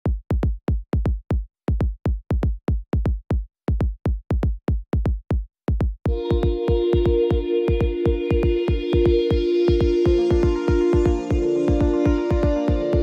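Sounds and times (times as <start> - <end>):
drum machine kick drum beat: 0.0 - 13.0.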